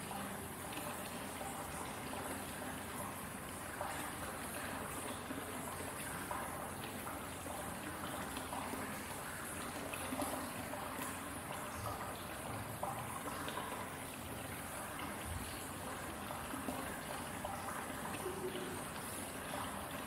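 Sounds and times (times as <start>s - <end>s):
water drips: 0.0s - 20.0s
water trickling into bath: 0.0s - 20.0s.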